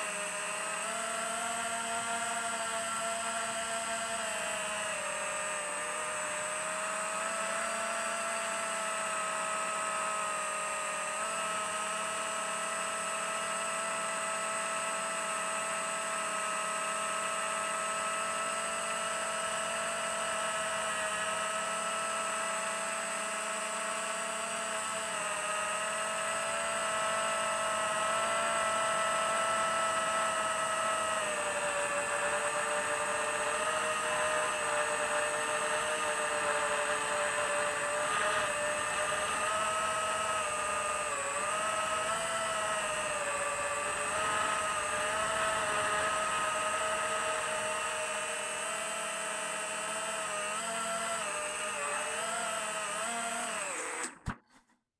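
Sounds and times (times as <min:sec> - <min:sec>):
quadcopter motors whining: 0:00.0 - 0:54.4.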